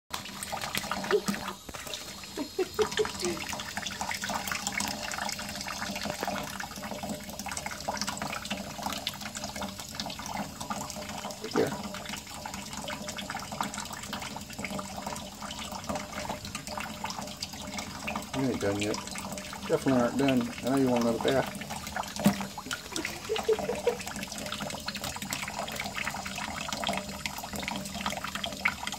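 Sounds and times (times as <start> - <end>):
tap water splashing into sink: 0.1 - 28.9.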